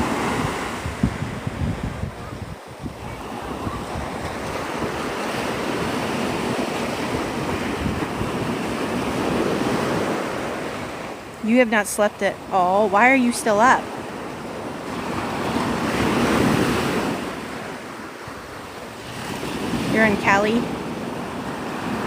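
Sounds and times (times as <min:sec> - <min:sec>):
surf washing onto beach: 0:00.0 - 0:22.0
wind gusting on microphone: 0:00.0 - 0:22.0.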